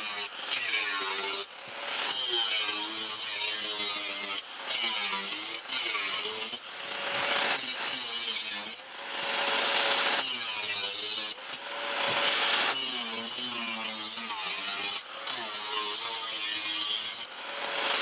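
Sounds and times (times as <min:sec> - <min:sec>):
power tool cutting sheet metal: 0:00.0 - 0:18.0.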